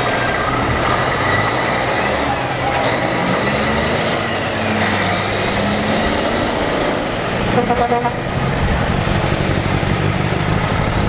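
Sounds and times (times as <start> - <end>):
road noise: 0.0 - 11.0
truck diesel engines: 0.0 - 11.0.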